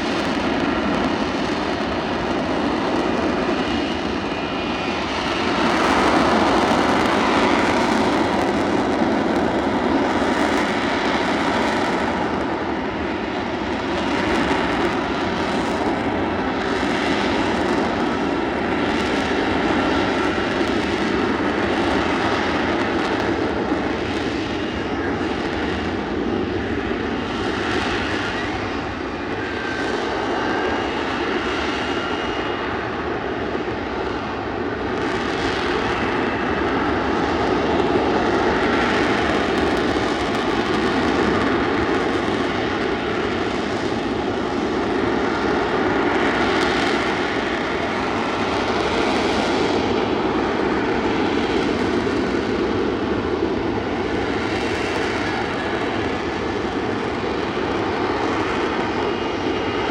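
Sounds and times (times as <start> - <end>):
jet engine roar: 0.0 - 59.9.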